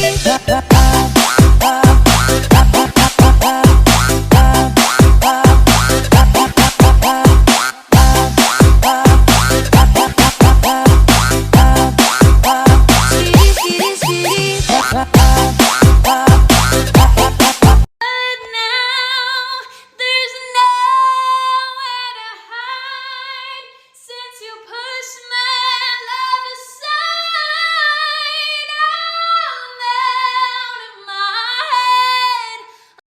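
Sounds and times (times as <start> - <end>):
woman singing unaccompanied: 0.0 - 7.4, 8.0 - 15.3, 15.9 - 17.2, 18.0 - 32.7.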